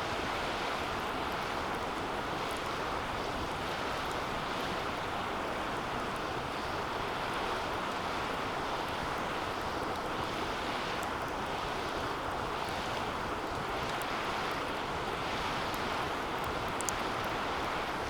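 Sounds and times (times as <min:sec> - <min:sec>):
fire crackles: 0:00.0 - 0:18.0.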